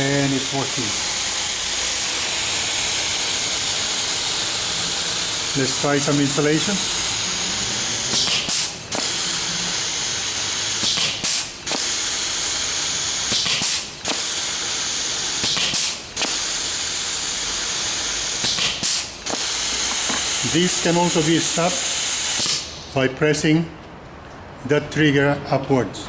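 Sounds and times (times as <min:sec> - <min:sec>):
pneumatic riveter setting rivets: 0:00.0 - 0:23.0
steady vacuum hiss: 0:00.0 - 0:23.5.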